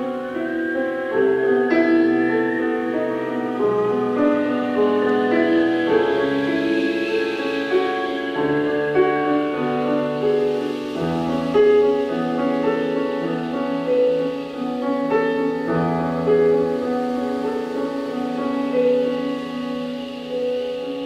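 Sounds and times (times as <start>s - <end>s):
long held tones: 0.0s - 21.0s
piano chords: 0.0s - 21.0s.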